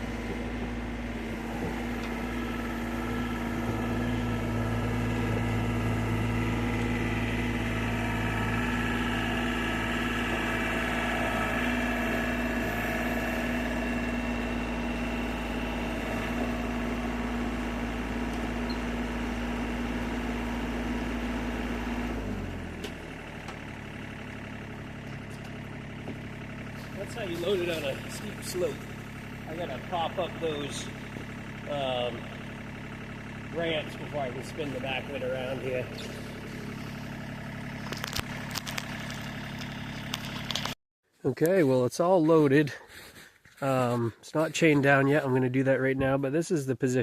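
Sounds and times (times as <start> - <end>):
excavator diesel engine running: 0.0 - 40.8, 43.6 - 46.2.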